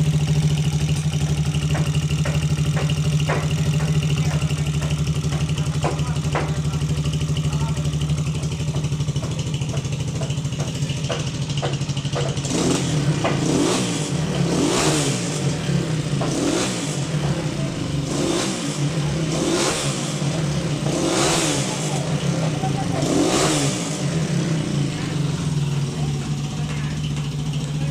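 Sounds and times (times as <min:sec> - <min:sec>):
motorcycle engine idling and revving: 0:00.0 - 0:27.9.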